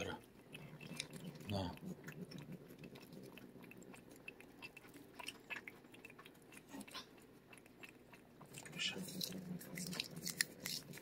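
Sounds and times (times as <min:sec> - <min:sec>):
cat licking and chewing: 0:00.0 - 0:11.0.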